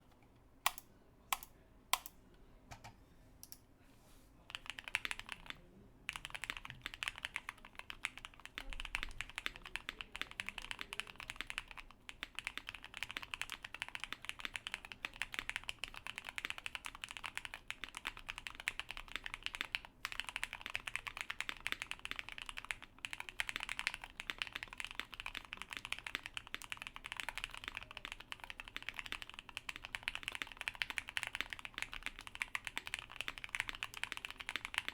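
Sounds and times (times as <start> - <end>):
mechanical keyboard typing: 0.6 - 2.1, 4.5 - 34.9.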